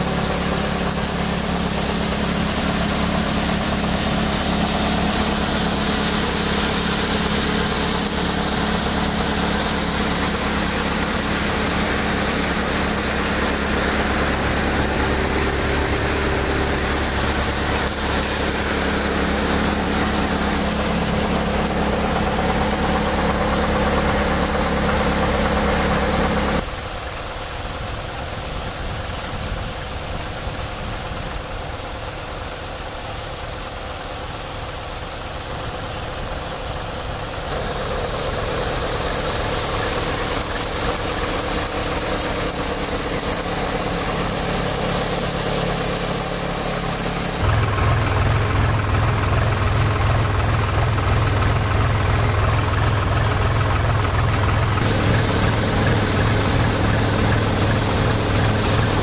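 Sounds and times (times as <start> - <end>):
thresher mechanical hum: 0.0 - 59.0
tractor engine drone: 0.0 - 59.0.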